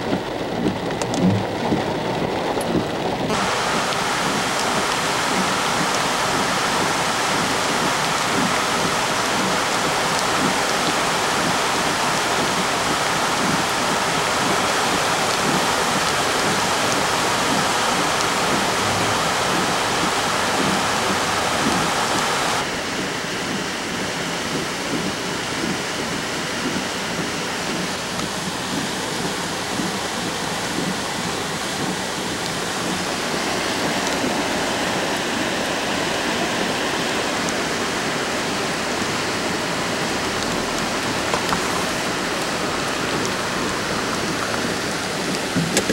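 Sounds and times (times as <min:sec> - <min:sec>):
floodwater rushing down a creek: 0:00.0 - 0:45.9.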